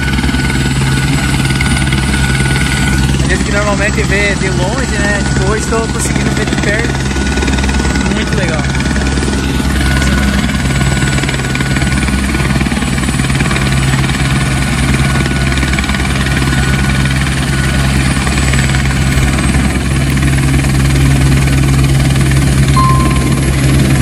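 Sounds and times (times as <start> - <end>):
helicopter rotor drone: 0.0 - 24.0
high turbine whine: 0.0 - 24.0.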